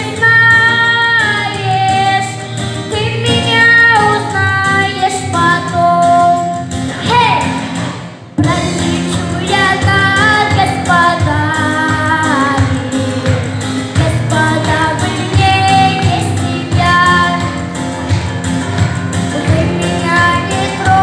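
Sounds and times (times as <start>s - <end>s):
woman singing with vibrato: 0.0s - 7.6s, 8.4s - 21.0s
instrumental backing with steady beat: 0.0s - 21.0s.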